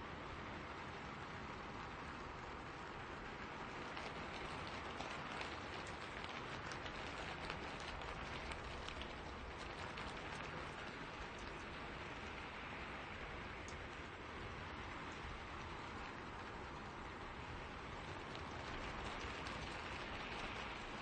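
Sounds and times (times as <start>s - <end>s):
rain falling in a forest: 0.0s - 21.0s
close raindrop hits: 0.3s - 21.0s.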